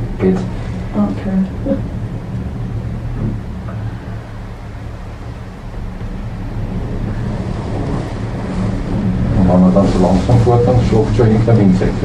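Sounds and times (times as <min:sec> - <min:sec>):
gondola cabin rumble: 0:00.0 - 0:12.0
wind noise: 0:00.0 - 0:12.0.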